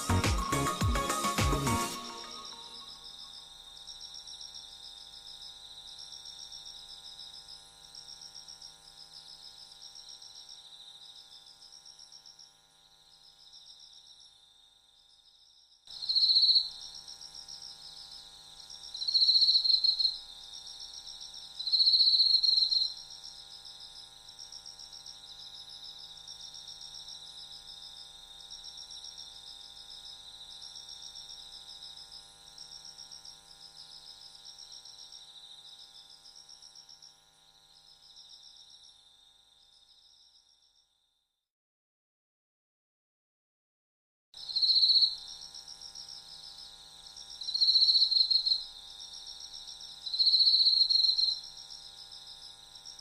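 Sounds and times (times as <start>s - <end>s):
high buzzing insect calls: 0.0s - 40.9s, 44.4s - 53.0s
insects chirping in trills: 0.0s - 41.2s, 44.4s - 53.0s.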